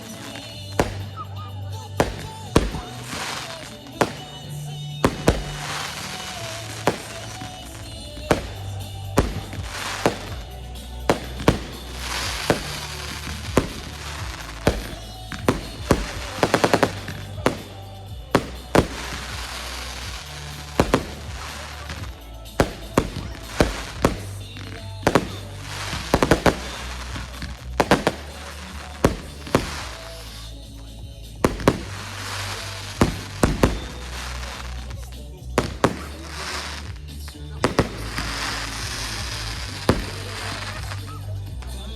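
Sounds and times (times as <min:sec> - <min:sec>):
fireworks bangs: 0:00.0 - 0:41.9
music with bass line: 0:00.0 - 0:41.9.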